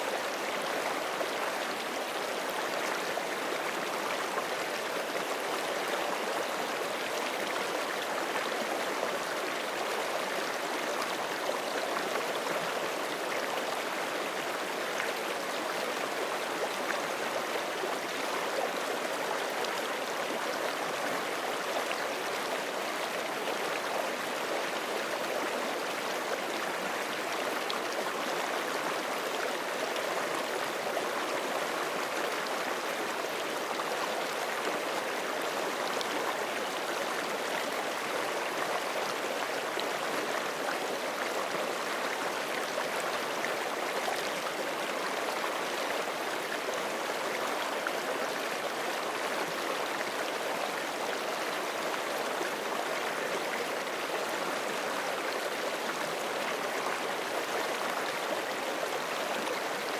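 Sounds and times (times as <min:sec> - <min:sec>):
creek water flowing over rocks: 0:00.0 - 0:59.9.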